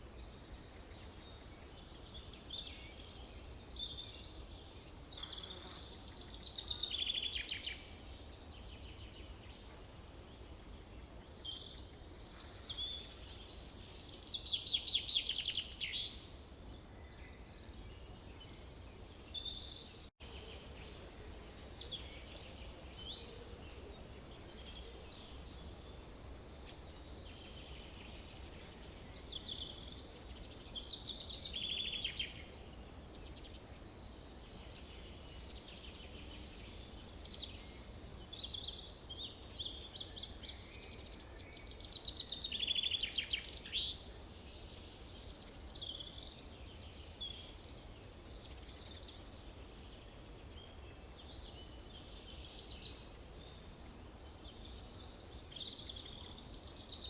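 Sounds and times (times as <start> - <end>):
birds singing: 0.0 - 57.0.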